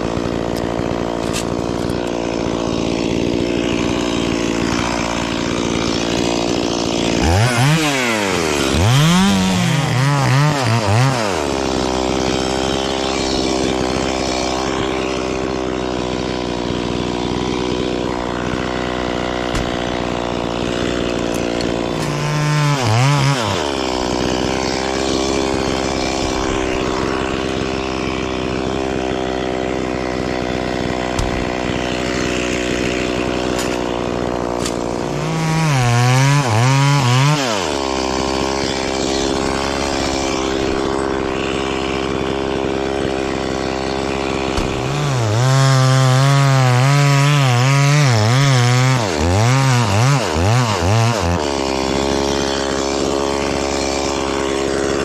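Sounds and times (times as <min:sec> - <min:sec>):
chainsaw idling and revving: 0:00.0 - 0:55.0.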